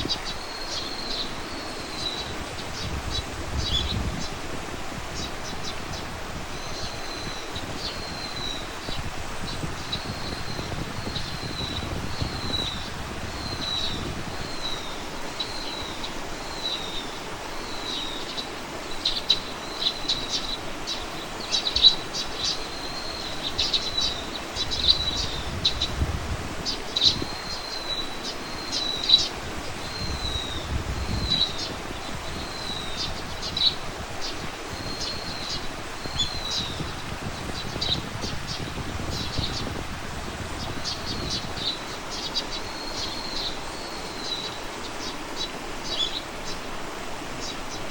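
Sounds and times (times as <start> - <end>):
low wind rumble: 0.0 - 47.8
outdoor hiss: 0.0 - 47.9.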